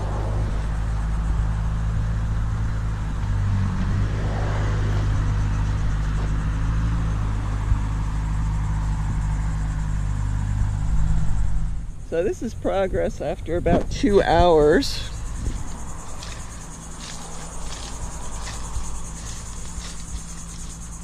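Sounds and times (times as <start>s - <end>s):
loader engine humming: 0.0s - 21.0s.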